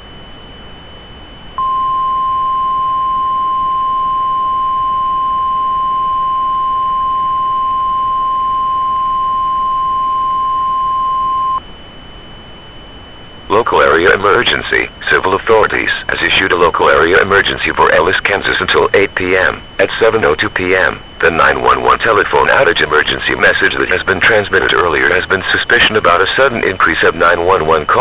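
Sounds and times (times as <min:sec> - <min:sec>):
faint high whine: 0:00.0 - 0:28.0
emergency alert beep: 0:00.1 - 0:26.0.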